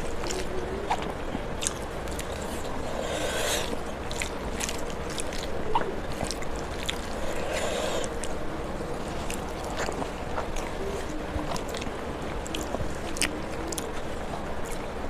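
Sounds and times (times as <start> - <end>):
small wet clicks and smacks: 0.0 - 2.7, 3.8 - 7.4, 9.1 - 15.0
fingers squishing wet food: 0.0 - 15.0.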